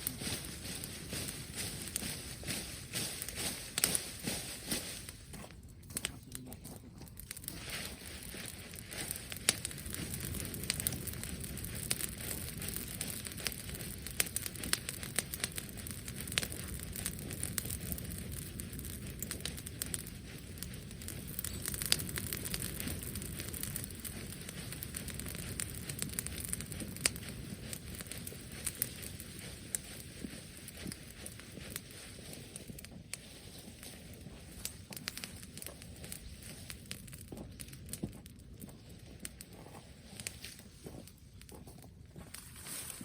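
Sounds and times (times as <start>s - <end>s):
bonfire crackling and popping: 0.0s - 43.0s
low rumble of flames: 0.0s - 43.0s.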